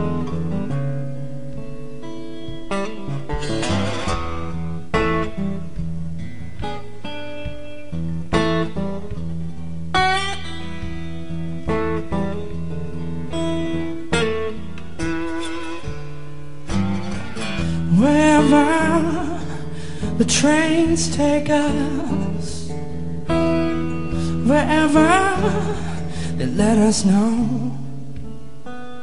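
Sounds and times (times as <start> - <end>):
acoustic guitar chords: 0.0 - 29.0.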